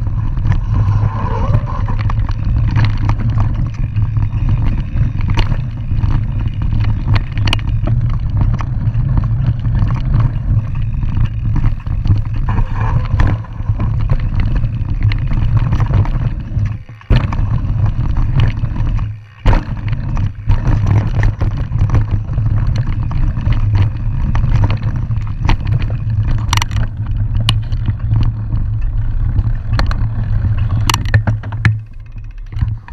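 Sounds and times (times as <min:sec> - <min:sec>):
wind rushing on microphone: 0:00.0 - 0:31.8
bike clicks and rattles: 0:00.0 - 0:32.9
bike tyre roar: 0:00.0 - 0:32.9.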